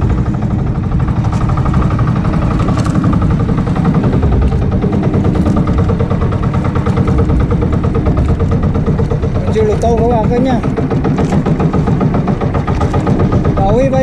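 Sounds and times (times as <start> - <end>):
boat engine chugging: 0.0 - 14.0.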